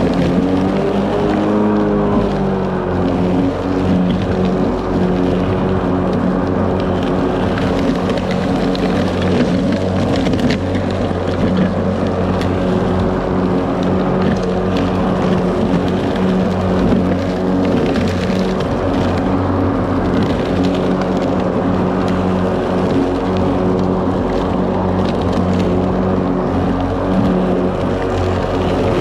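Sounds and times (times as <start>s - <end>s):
electric lawn mower humming: 0.0s - 29.0s.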